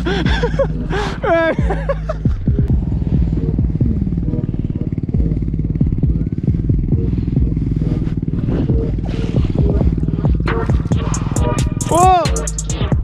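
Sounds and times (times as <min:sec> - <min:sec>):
boat engine running steadily: 0:00.0 - 0:11.7.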